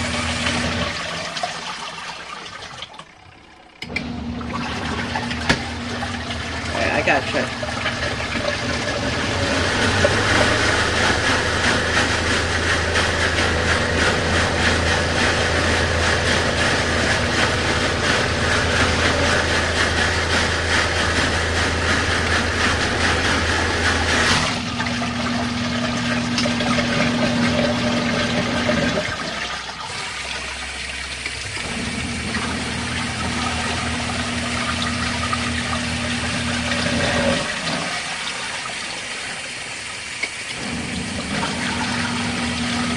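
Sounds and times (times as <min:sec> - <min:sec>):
washing machine motor hum: 0:00.0 - 0:42.9
water churning in tub: 0:00.0 - 0:42.9.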